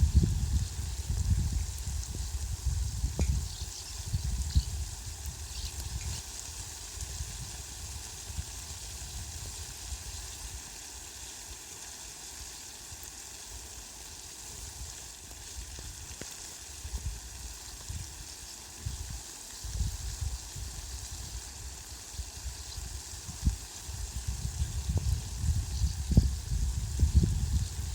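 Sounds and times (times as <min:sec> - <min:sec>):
heavy rain on leaves: 0:00.0 - 0:27.9.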